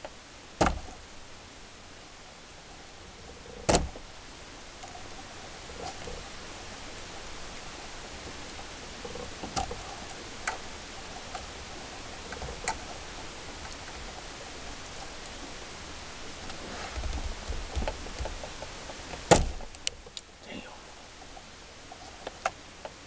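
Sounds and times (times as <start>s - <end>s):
steady hiss: 0.0s - 23.0s
hands rustling wires: 2.5s - 23.0s.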